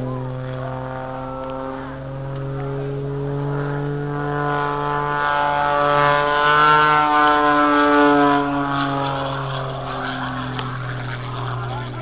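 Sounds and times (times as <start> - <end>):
propeller plane flying overhead: 0.0 - 12.0.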